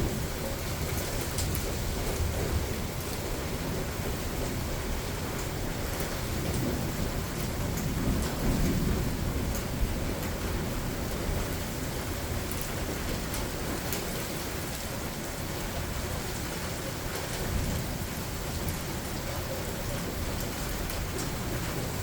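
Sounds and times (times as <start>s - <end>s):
low rumble of thunder: 0.0s - 13.9s, 17.1s - 22.0s
steady rain falling: 0.0s - 22.0s.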